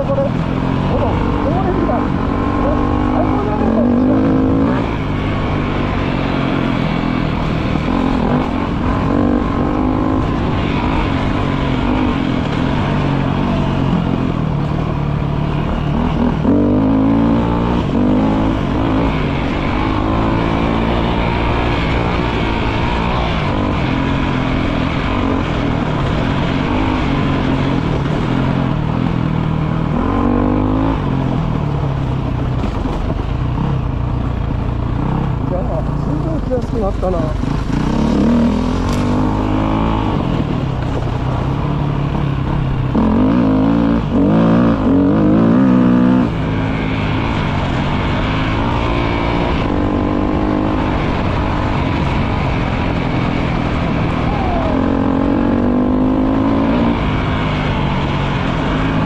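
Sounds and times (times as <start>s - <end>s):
motorcycle engine accelerating: 0.0s - 59.0s
steady rush of noise: 0.0s - 59.0s.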